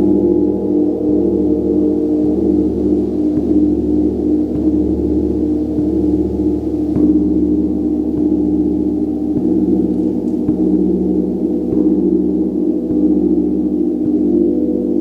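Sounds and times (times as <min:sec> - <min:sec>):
gong roll: 0:00.0 - 0:15.0.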